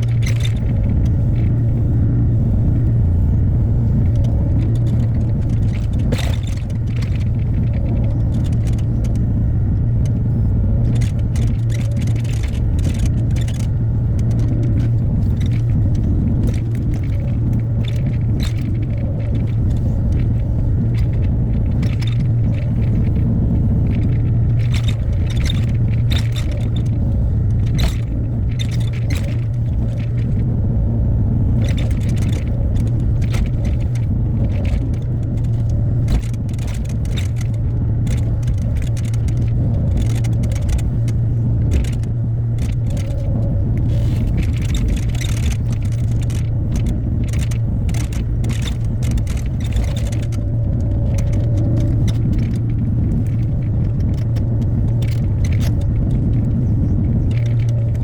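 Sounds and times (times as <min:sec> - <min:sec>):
diesel engine running: 0:00.0 - 0:58.0
metallic clicks and clatter: 0:00.0 - 0:58.0.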